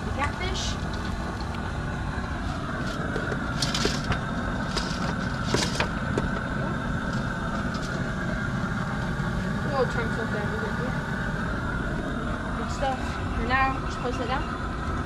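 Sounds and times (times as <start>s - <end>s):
burner crackles: 0.0s - 15.0s
propane burner roar: 0.0s - 15.0s.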